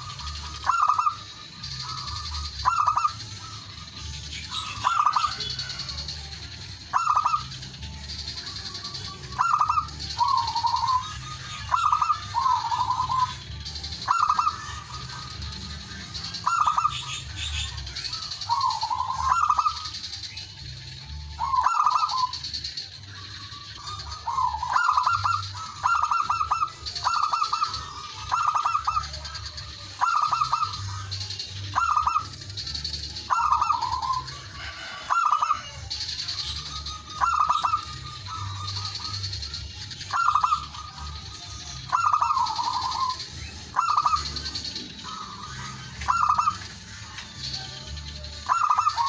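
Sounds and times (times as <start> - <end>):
dove cooing: 0.0 - 20.0, 21.2 - 22.5, 23.5 - 49.0
faint high chirping: 0.0 - 49.0.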